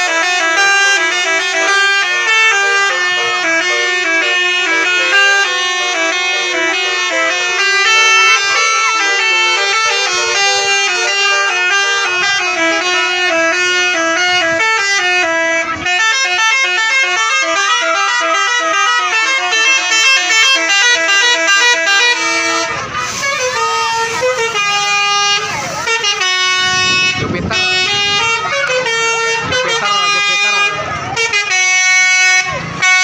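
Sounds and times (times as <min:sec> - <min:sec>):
musical bus horn tune: 0:00.0 - 0:33.0.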